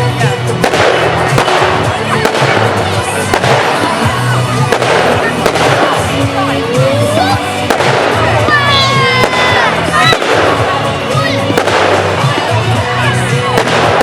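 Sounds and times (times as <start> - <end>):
firework shells bursting and crackling: 0.0 - 14.0
music with steady bass line: 0.0 - 14.0.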